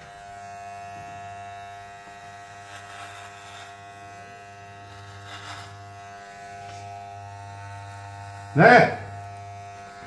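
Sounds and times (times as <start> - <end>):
clipper rasp cutting hair: 0.0 - 10.0
electric hair clipper humming: 0.0 - 10.0.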